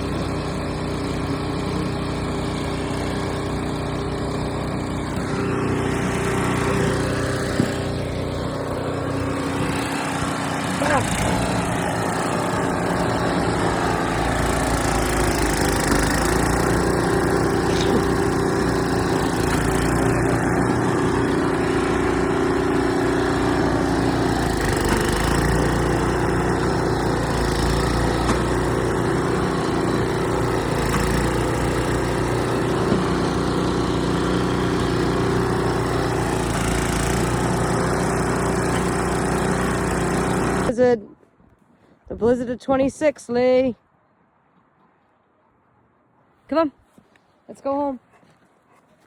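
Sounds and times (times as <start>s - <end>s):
small engine running: 0.0s - 41.0s.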